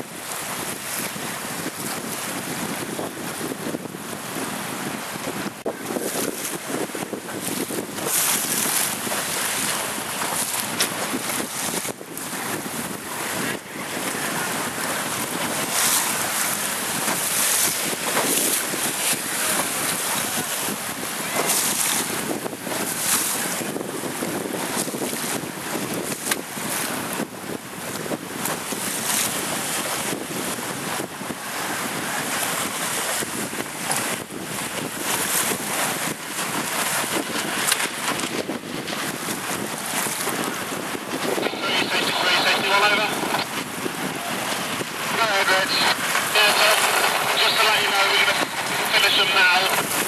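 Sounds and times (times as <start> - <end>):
choppy sea rushing: 0.0 - 50.0
wind buffeting microphone: 0.0 - 50.0.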